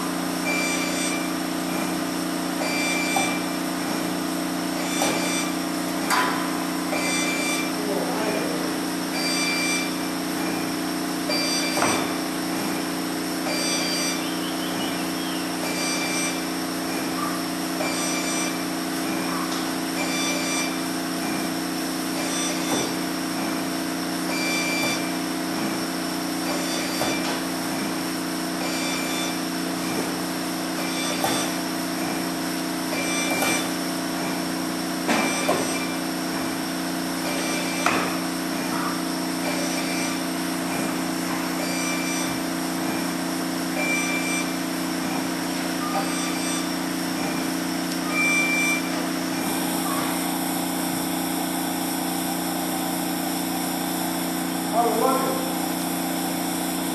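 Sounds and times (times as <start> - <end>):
welding machine humming: 0.0 - 56.9.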